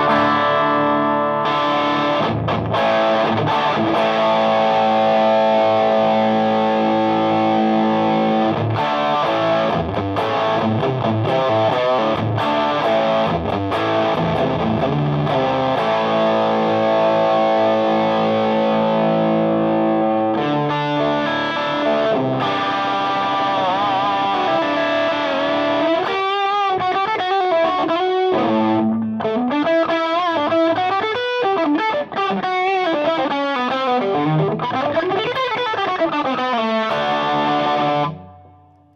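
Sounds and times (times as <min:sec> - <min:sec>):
overdriven electric guitar: 0:00.0 - 0:38.9.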